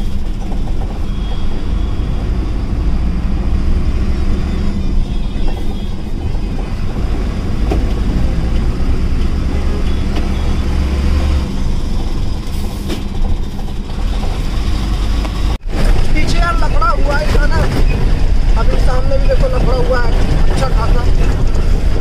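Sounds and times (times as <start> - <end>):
truck engine and tyres rumbling: 0.0 - 22.0.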